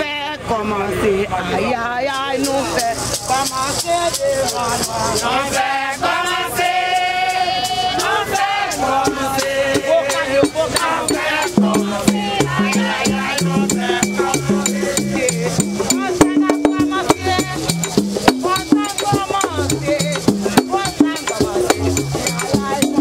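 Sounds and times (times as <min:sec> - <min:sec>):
voices singing: 0:00.0 - 0:23.0
rattle beat: 0:02.1 - 0:23.0
sharp percussion strokes: 0:02.2 - 0:23.0.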